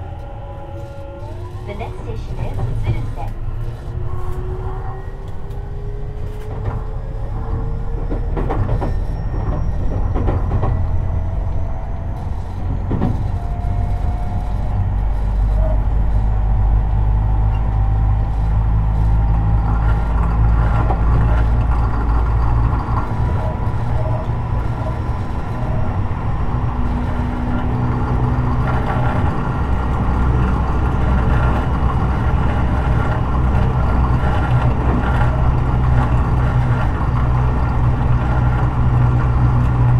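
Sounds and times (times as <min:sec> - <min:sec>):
heavy train running rumble: 0:00.0 - 0:39.9
traction motor whine: 0:00.0 - 0:39.9
wheel clicks over rail joints: 0:06.2 - 0:39.9.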